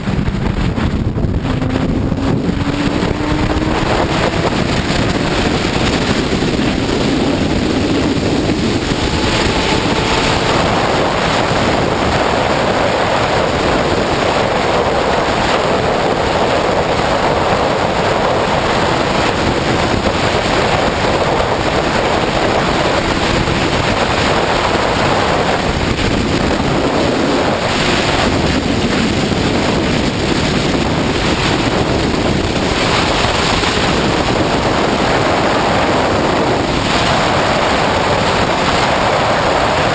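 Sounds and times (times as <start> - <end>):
faint motorcycle engine: 0.0 - 39.9
wind roar over microphone: 0.0 - 39.9.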